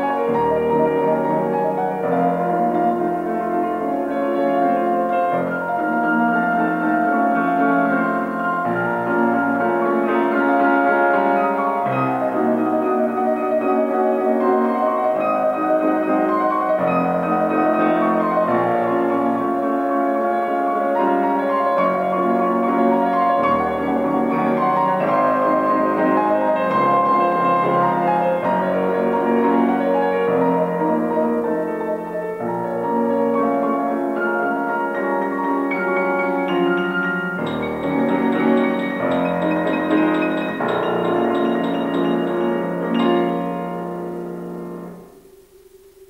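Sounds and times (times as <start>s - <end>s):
solo piano waltz: 0.0s - 46.0s.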